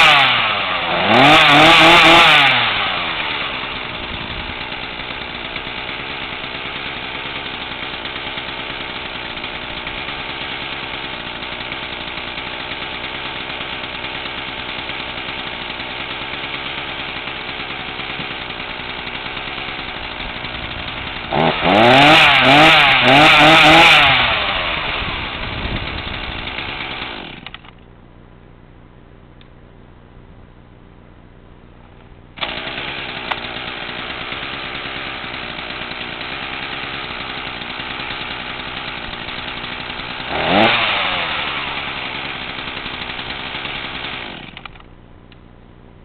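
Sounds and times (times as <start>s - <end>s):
chainsaw idling and revving: 0.0s - 27.8s, 32.4s - 44.9s.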